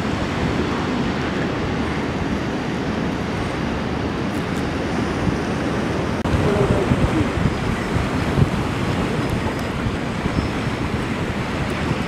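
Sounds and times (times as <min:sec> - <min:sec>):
boat engine: 0:00.0 - 0:12.0
bow wave and wake spray rushing: 0:00.0 - 0:12.0
wind buffeting microphone: 0:00.0 - 0:12.0.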